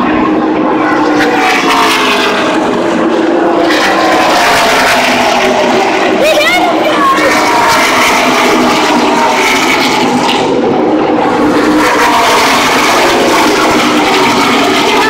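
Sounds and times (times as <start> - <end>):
race truck engines roaring: 0.0 - 15.0.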